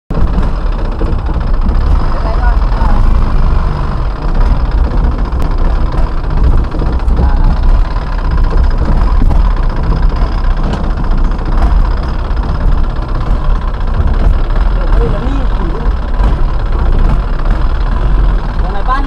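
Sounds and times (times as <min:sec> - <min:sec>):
boat engine running: 0:00.1 - 0:19.0.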